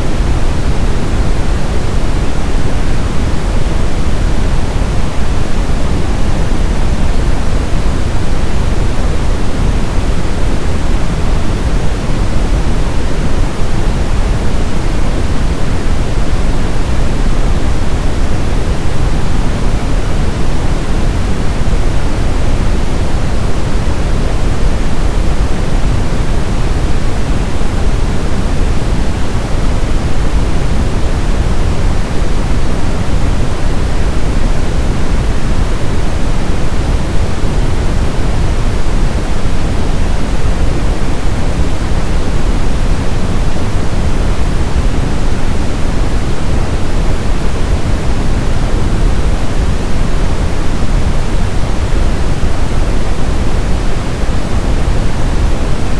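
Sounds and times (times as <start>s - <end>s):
brown noise rumble: 0.0s - 55.9s.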